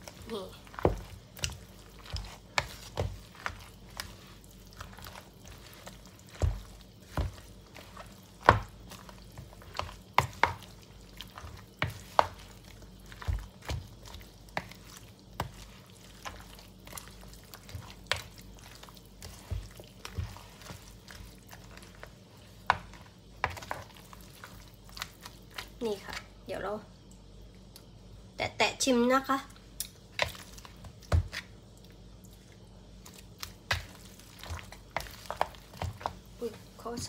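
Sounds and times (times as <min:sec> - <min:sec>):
spoon stirring thick mixture: 0:00.0 - 0:26.4, 0:29.6 - 0:37.0.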